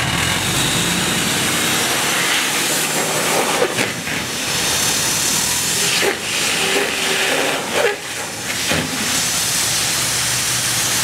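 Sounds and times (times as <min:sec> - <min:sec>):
diesel engine running: 0:00.0 - 0:11.0
exhaust gas hissing: 0:00.0 - 0:11.0.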